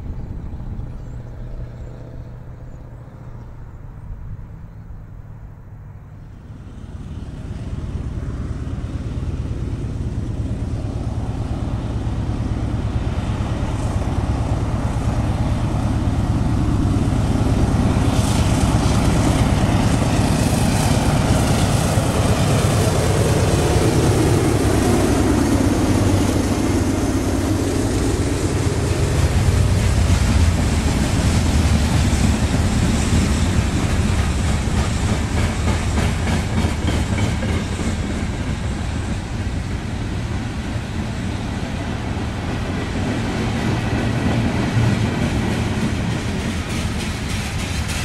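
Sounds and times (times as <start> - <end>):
diesel locomotive rumble: 0.0 - 48.0.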